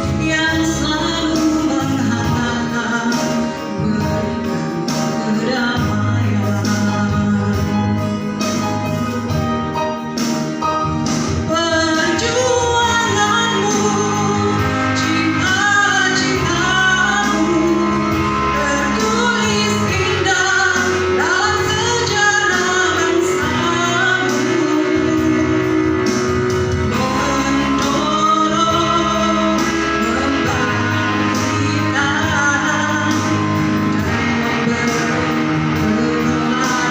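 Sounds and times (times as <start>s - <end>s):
person singing: 0.0s - 9.9s, 10.6s - 36.9s
instrumental accompaniment: 0.0s - 36.9s.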